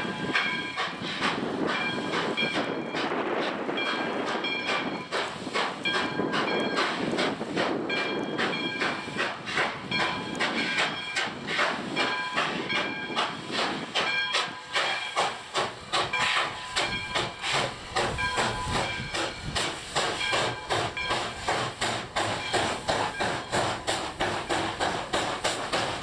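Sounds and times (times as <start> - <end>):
hissing steam: 0.0 - 26.0
steam locomotive exhaust chuffing: 0.0 - 26.0.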